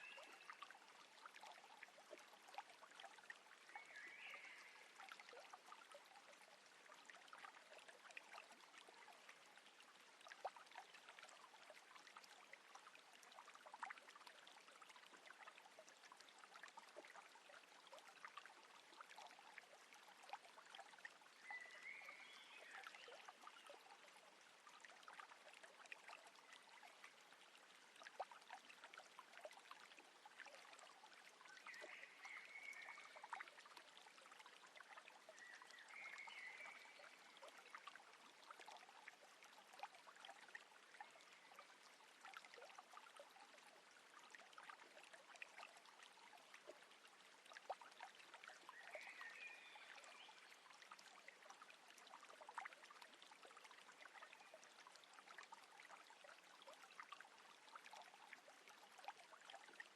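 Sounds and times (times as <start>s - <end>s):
water drips and splashes: 0.0s - 59.9s.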